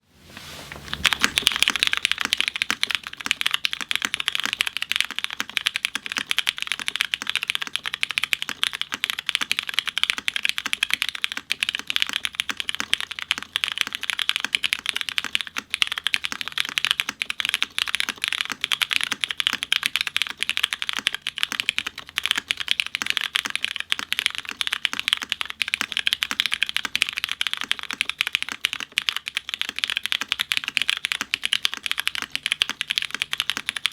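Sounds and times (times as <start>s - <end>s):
fast mechanical keyboard typing: 0.8s - 33.9s.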